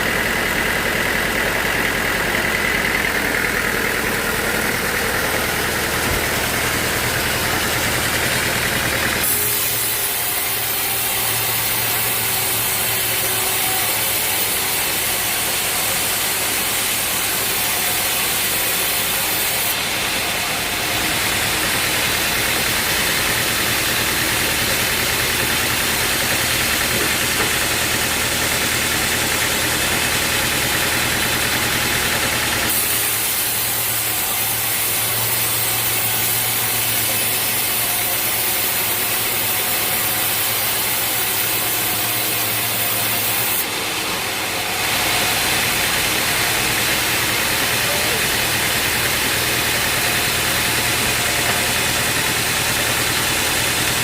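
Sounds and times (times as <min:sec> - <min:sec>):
sawmill engine humming: 0:00.0 - 0:54.0.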